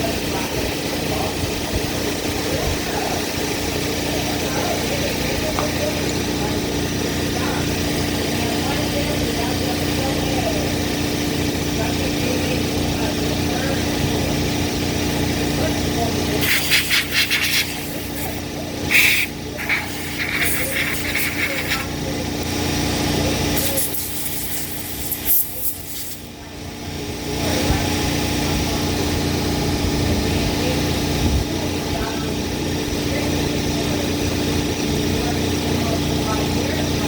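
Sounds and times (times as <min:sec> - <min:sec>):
small generator engine running: 0:00.0 - 0:37.0.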